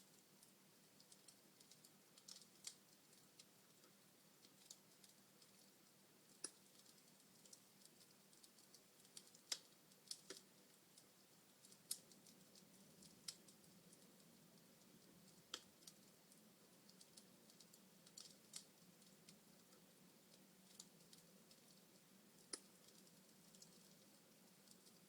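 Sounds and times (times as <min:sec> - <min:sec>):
faint steady background: 0:00.0 - 0:25.0
wood fire crackling: 0:00.0 - 0:25.0.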